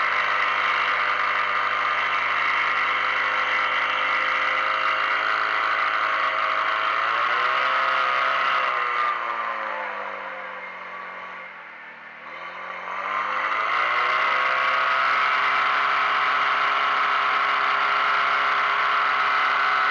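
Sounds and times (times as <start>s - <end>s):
pump engine revving: 0.0s - 9.5s, 12.2s - 19.9s.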